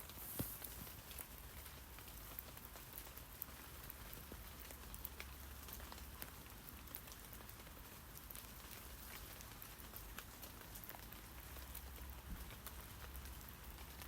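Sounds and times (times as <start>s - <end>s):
rain tapping on tree leaves: 0.0s - 14.0s.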